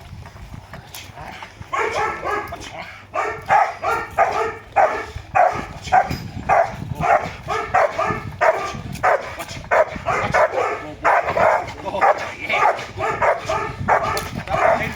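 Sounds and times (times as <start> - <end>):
dog barking: 1.7 - 14.9.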